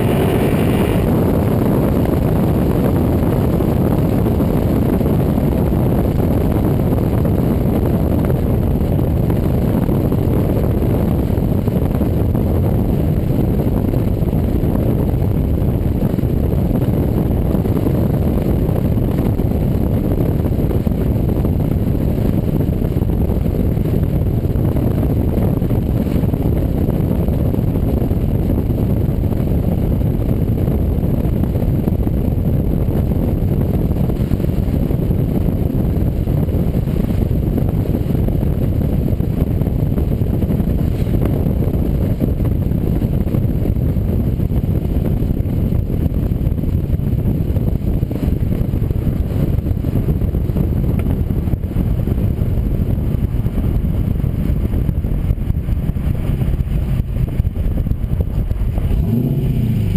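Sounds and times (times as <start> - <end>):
car exhaust deep rumble: 0.0 - 59.9.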